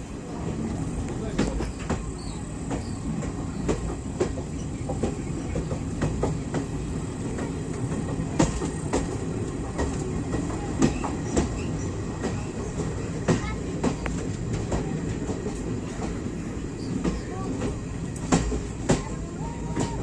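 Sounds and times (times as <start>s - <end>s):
train rumbling on rails: 0.0s - 20.0s
wheels knocking on track: 0.4s - 20.0s.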